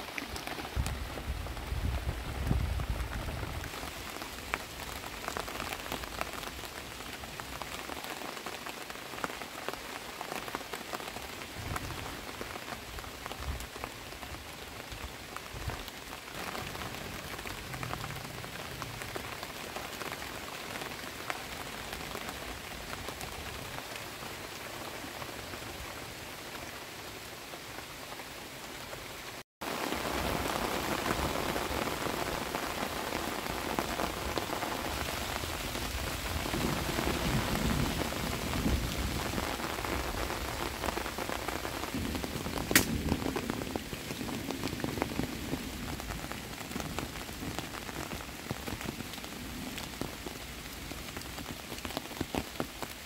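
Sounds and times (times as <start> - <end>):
rain on a thatched roof: 0.0 - 53.0.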